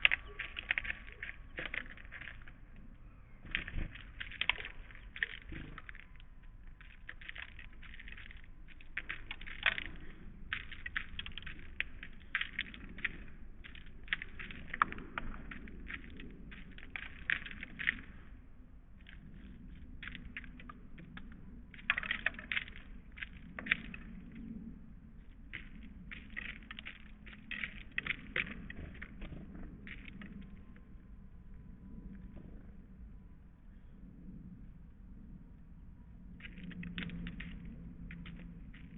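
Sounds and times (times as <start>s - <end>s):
birds pecking at seed: 0.0s - 38.9s.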